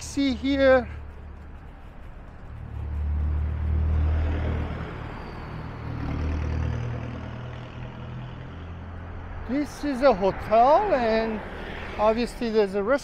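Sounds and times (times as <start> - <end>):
vehicles driving past: 0.0 - 13.0.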